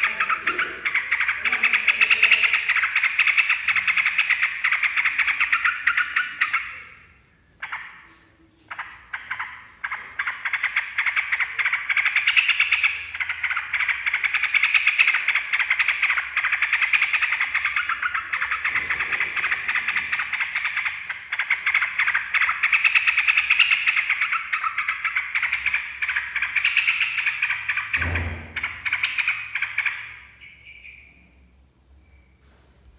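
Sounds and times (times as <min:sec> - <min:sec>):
bird chattering rattle: 0:00.0 - 0:07.0, 0:07.6 - 0:31.0.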